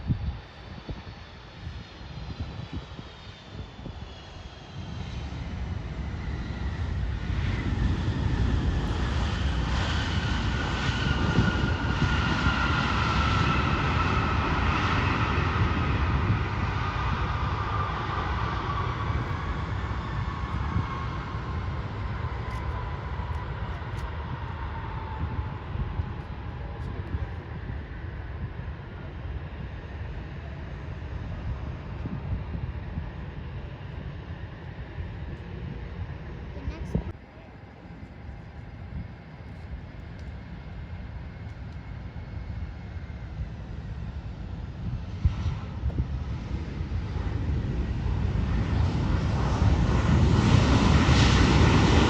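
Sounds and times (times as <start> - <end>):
jet airliner passing: 0.0 - 52.0.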